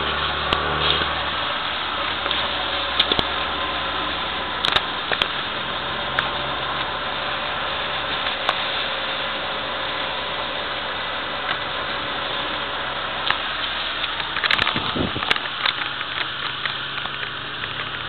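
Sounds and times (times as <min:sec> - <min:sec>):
car engine drone: 0:00.0 - 0:18.0
tyres hissing on wet tarmac: 0:00.0 - 0:18.0.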